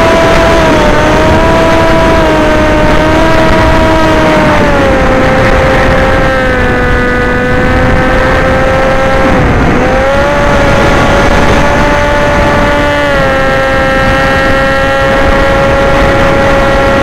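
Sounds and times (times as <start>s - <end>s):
model aircraft motor whine: 0.0s - 17.0s
wind rushing: 0.0s - 17.0s.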